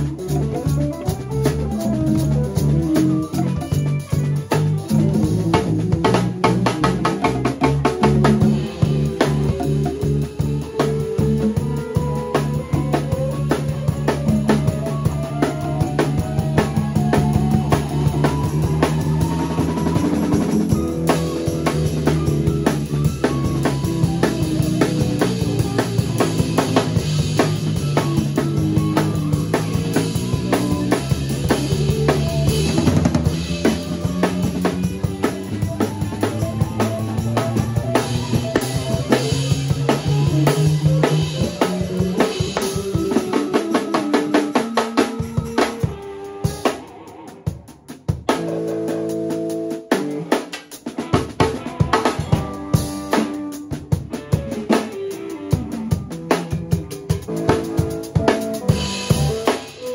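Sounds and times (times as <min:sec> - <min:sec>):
bass guitar line: 0:00.0 - 0:59.9
drum kit groove: 0:00.0 - 0:59.9
funk band playing: 0:00.0 - 0:59.9.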